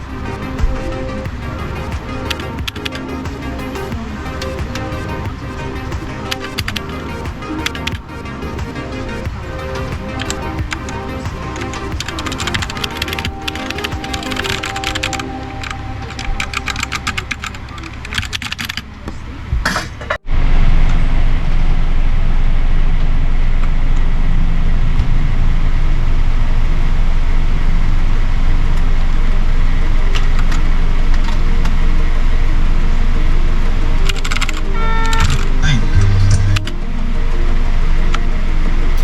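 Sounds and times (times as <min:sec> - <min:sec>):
loud steady noise: 0:00.0 - 0:39.0.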